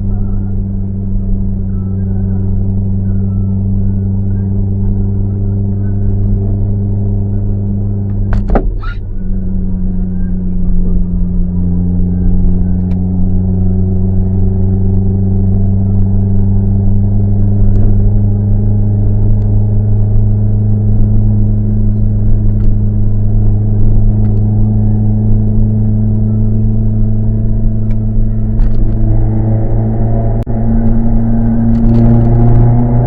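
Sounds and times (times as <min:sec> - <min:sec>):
car exhaust deep drone: 0:00.0 - 0:33.0.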